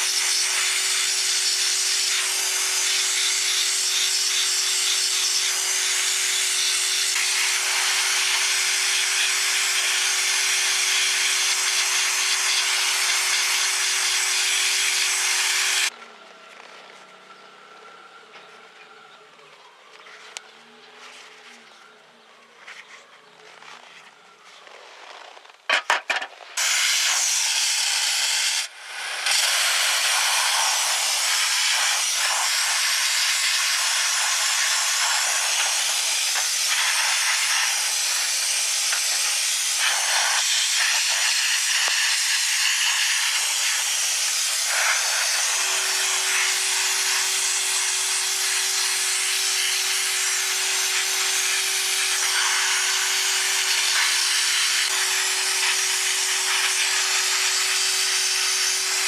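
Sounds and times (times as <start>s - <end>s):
sandblasting gun hissing: 0.0s - 15.9s, 26.6s - 59.0s.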